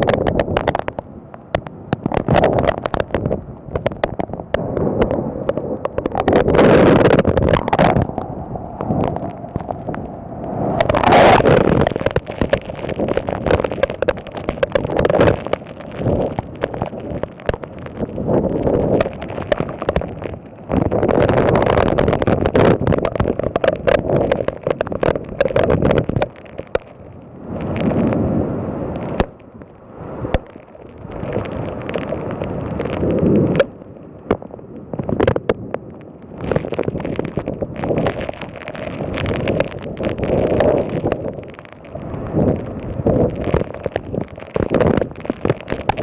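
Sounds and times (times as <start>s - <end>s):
wind gusting against microphone: 0.0s - 46.0s.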